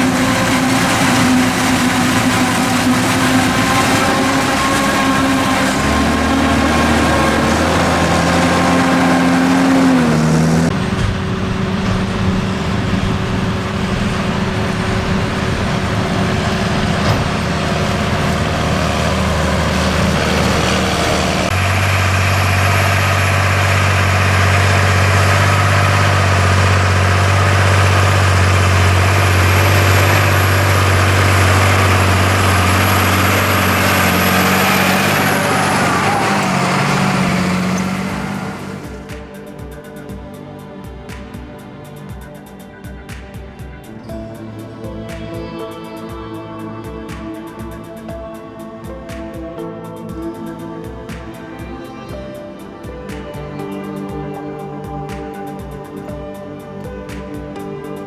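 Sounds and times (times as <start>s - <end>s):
diesel farm machinery engines: 0.0s - 58.0s.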